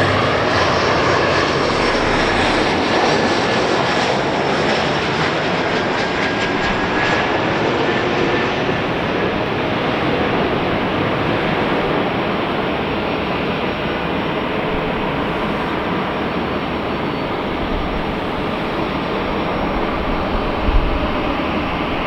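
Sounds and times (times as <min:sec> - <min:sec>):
jet engines steady noise: 0:00.0 - 0:22.0.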